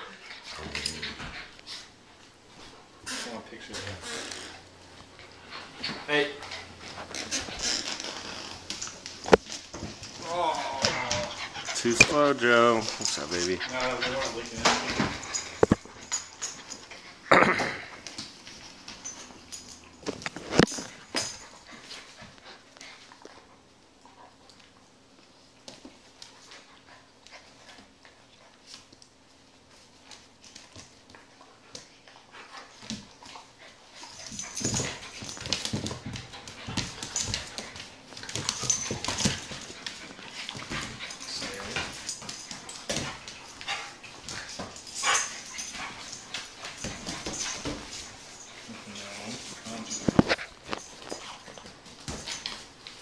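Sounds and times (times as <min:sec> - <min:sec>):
dogs scuffling: 0:00.2 - 0:23.5, 0:24.4 - 0:53.0.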